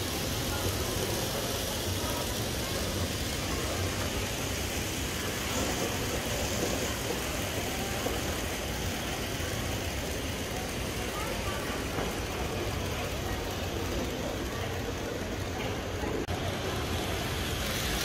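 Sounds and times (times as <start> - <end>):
hiss: 0.0 - 18.0.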